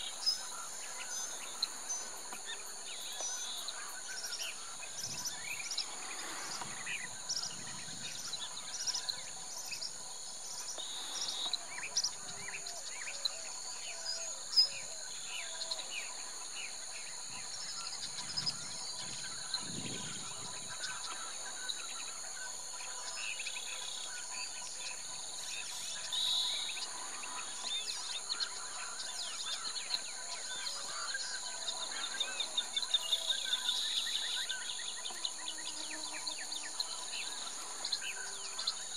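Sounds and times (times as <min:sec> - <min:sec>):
birds chirping: 0:00.0 - 0:38.9
insects droning: 0:00.0 - 0:38.9.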